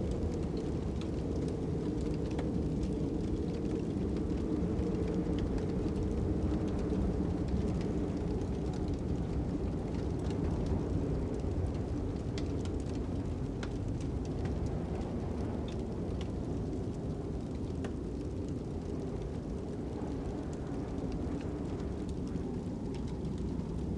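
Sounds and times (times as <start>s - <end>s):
fire crackling and popping: 0.0s - 23.9s
low wind rumble: 0.0s - 23.9s.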